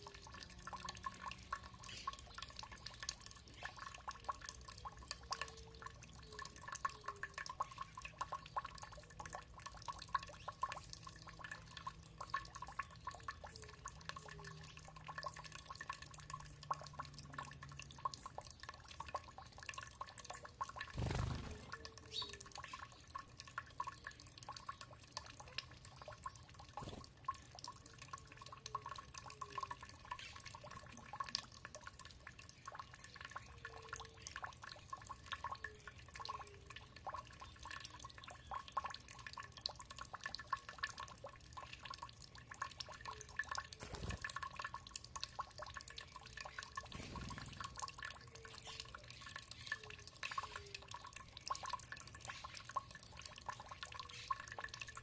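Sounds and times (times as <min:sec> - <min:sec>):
water dripping and trickling: 0:00.0 - 0:55.0.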